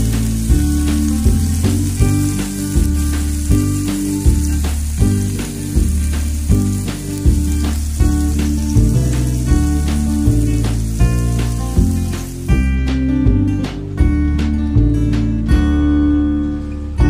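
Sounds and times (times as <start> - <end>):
music with beat and bass line: 0.0 - 17.0.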